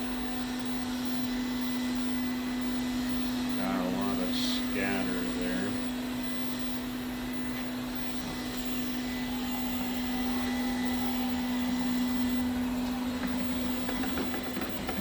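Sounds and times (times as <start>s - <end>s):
robot vacuum cleaner humming: 0.0s - 15.0s.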